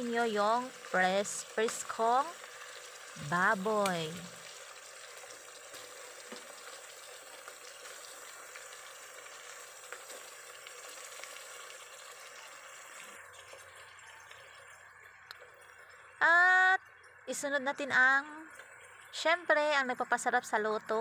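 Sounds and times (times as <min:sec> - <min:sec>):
frying hiss and crackle: 0:00.0 - 0:21.0.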